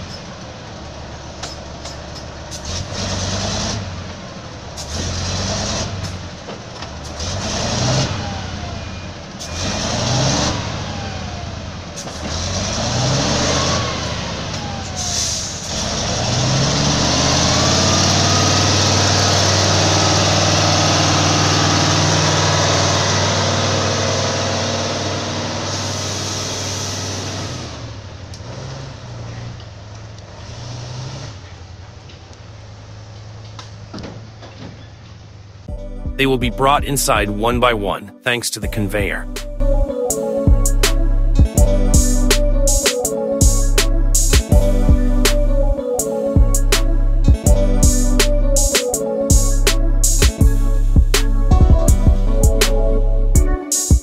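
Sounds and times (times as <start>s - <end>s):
heavy vehicle engine revving: 0.0s - 38.0s, 40.5s - 53.6s.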